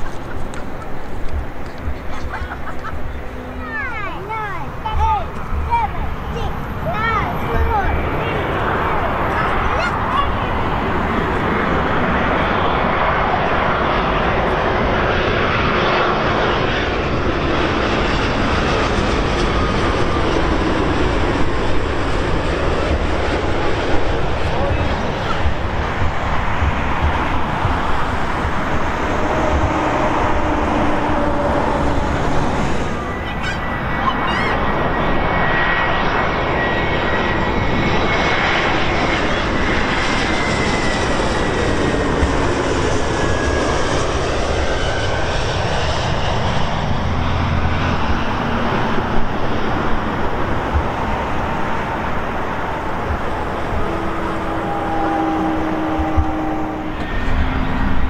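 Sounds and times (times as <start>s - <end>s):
jet airliner engines roaring: 0.0s - 58.0s.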